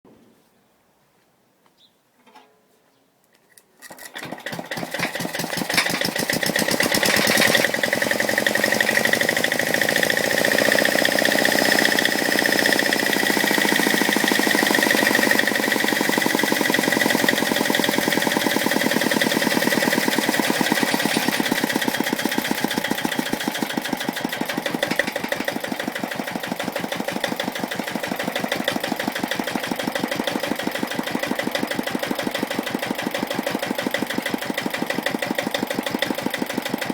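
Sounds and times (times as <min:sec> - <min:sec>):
diesel engine starting and running: 0:03.9 - 0:36.9.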